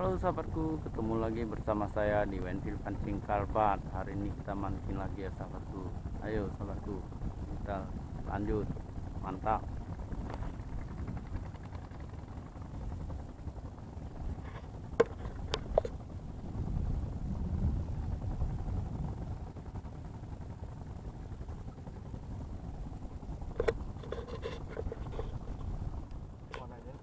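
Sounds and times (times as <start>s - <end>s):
low rumbling wind noise: 0.0s - 27.0s.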